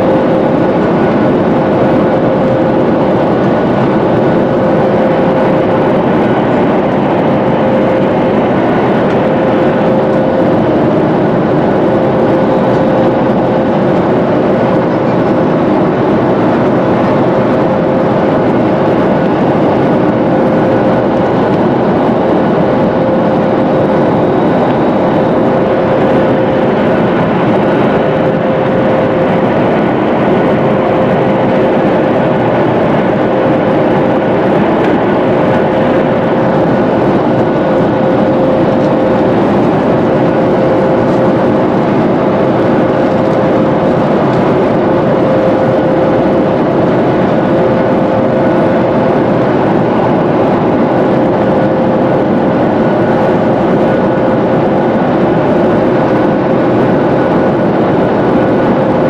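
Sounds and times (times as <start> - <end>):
airliner cabin rush: 0.0 - 59.0
constant hum: 0.0 - 59.0.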